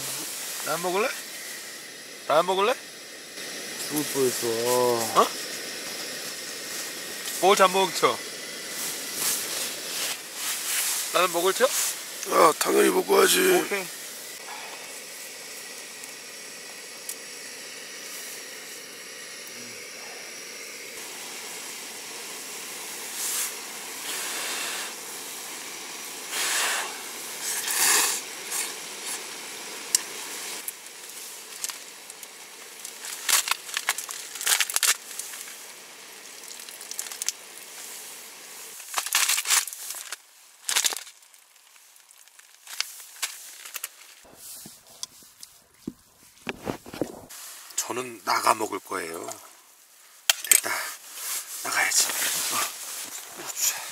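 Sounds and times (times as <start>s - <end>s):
noodles sizzling in frying pan: 0.0s - 45.5s
crackling bursts: 0.0s - 53.9s.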